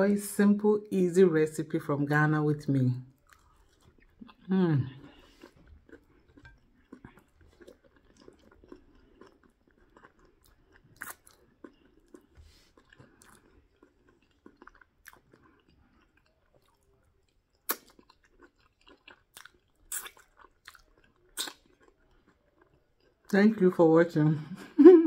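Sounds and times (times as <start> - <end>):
person chewing food: 3.1 - 23.3.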